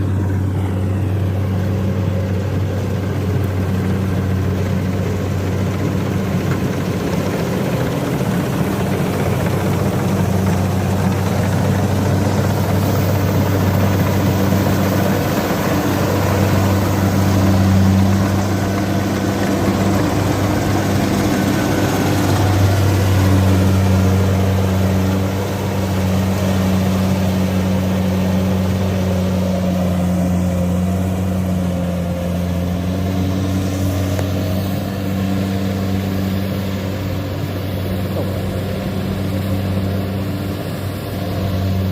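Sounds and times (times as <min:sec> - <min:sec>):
combine harvester engine hum: 0:00.0 - 0:41.9.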